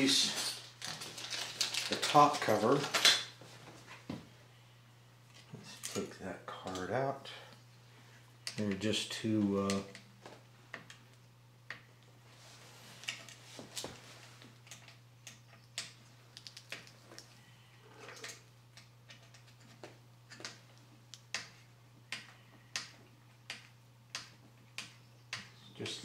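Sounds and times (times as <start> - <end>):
steady low hum: 1.9 - 26.0.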